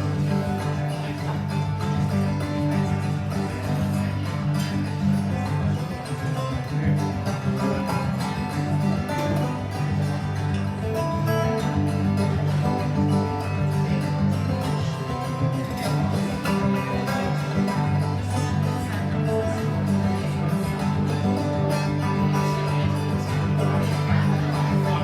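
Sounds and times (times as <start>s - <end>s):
acoustic guitar playing: 0.0s - 25.0s.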